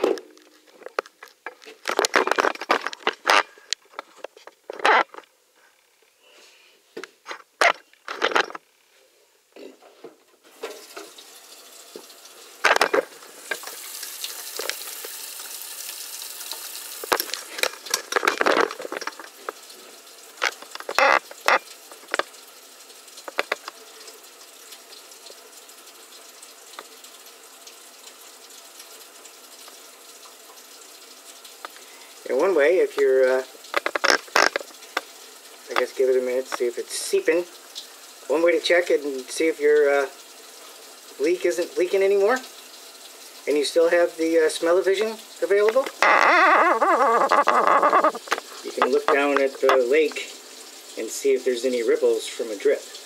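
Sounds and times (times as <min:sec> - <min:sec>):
tap water running into sink: 0:10.5 - 0:53.0.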